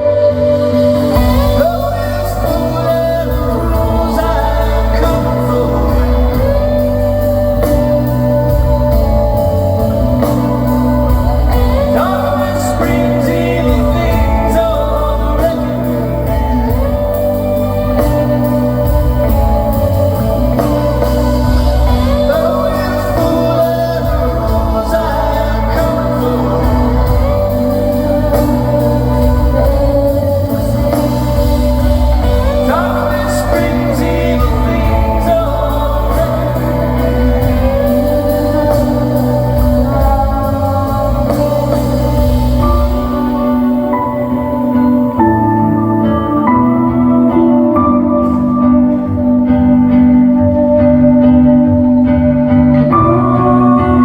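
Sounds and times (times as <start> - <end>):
lead singer singing: 0.0 - 54.0
rock band playing live: 0.0 - 54.0.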